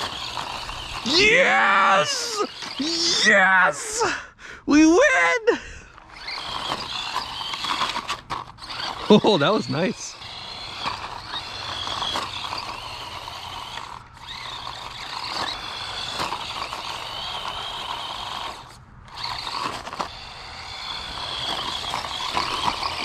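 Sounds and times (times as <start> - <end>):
toy truck motor and gears whining: 0.0 - 23.0.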